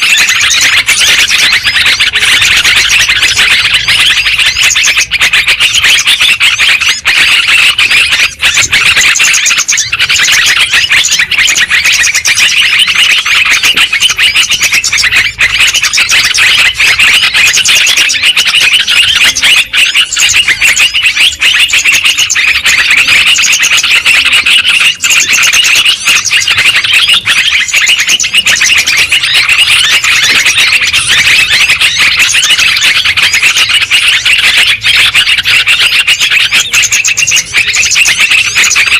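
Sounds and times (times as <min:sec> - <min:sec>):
bulbuls chattering: 0:00.0 - 0:38.9.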